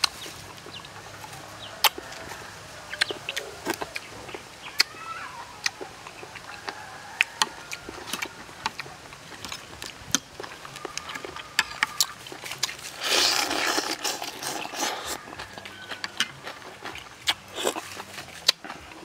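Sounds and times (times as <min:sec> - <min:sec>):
close-up chewing: 0:00.0 - 0:19.0.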